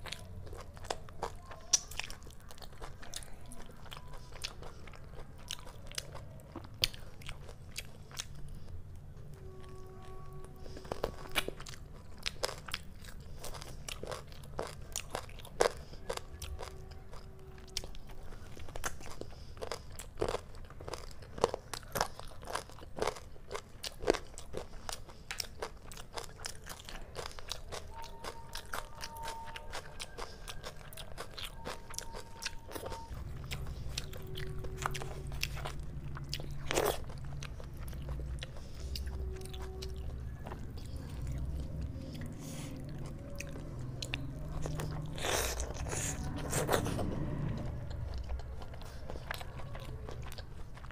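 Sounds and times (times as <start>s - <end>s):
chewing and crunching: 0.0s - 50.9s.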